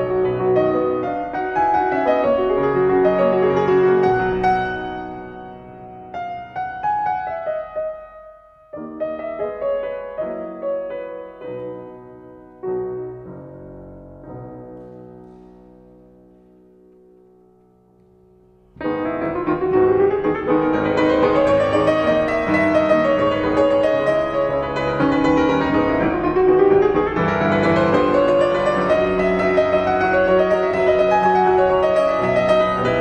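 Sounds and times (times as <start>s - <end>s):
solo piano classical music: 0.0s - 33.0s.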